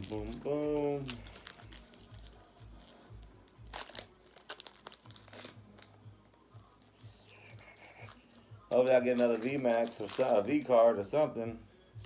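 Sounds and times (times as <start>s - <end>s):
foil wrapper crinkling and tearing: 0.0s - 6.0s, 6.7s - 11.0s.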